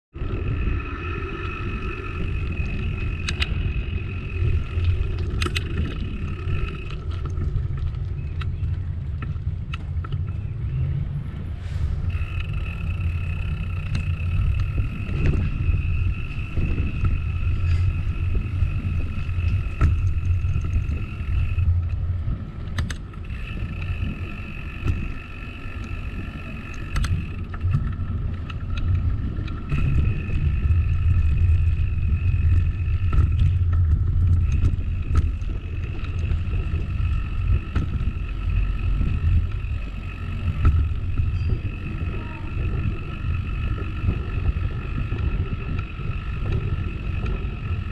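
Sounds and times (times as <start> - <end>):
bicycle tyres rumbling: 0.0 - 47.9
high-pitched whine: 0.1 - 8.6, 10.3 - 22.0, 28.6 - 47.9
wind on camera: 0.1 - 47.9.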